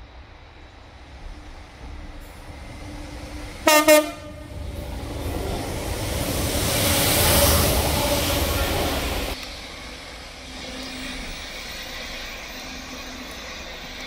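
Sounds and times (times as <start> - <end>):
diesel train passing: 0.0 - 14.0.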